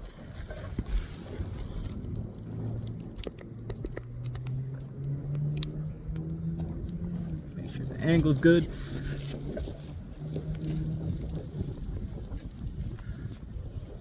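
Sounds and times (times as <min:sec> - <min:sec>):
camera and tripod clicks and rattles: 0:00.0 - 0:14.0
low hum rising in pitch: 0:01.1 - 0:12.7.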